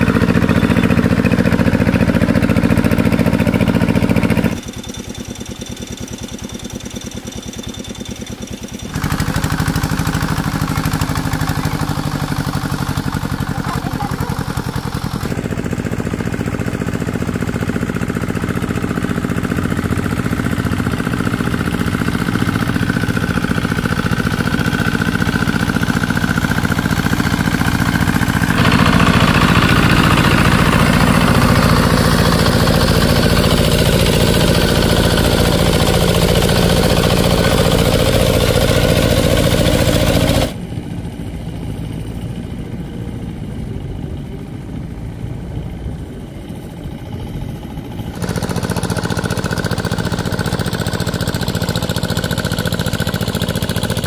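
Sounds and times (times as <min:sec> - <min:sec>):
engine chugging: 0:00.0 - 0:54.0.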